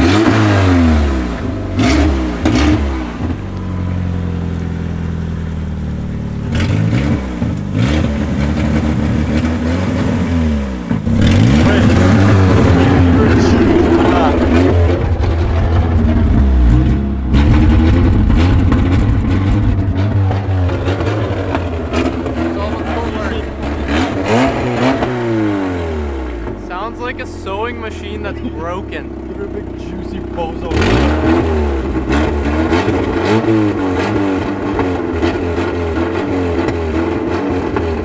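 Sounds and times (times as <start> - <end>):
rough loud car engine: 0.0 - 38.0.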